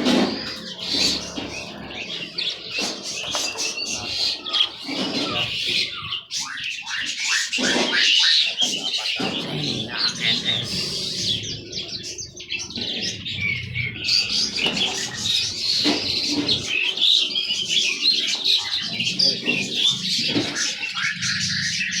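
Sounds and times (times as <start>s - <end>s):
birds chirping and twittering: 0.0s - 22.0s.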